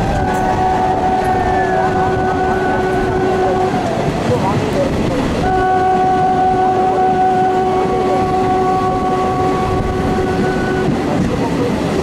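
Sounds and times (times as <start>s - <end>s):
train horn long note: 0.0s - 4.3s, 5.4s - 11.1s
passenger train running: 0.0s - 12.0s.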